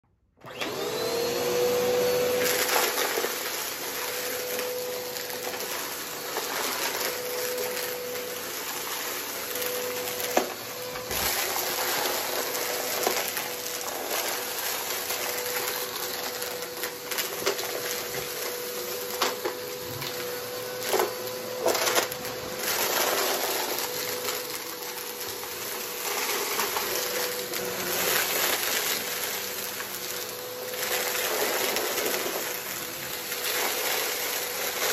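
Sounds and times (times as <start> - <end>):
vacuum cleaner motor running: 0.4 - 34.9.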